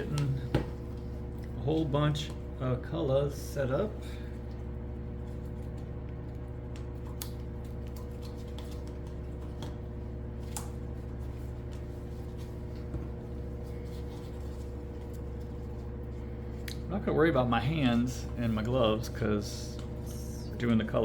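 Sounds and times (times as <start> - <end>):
low electrical fan hum: 0.0 - 21.0.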